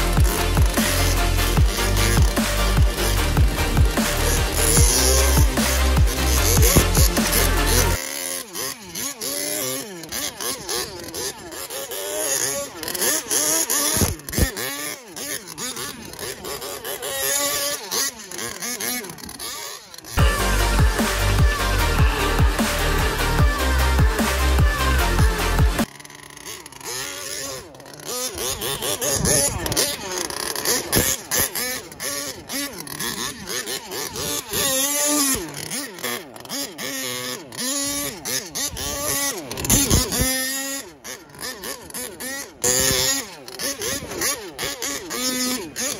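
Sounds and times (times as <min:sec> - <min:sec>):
toy truck engine revving: 0:00.0 - 0:45.9.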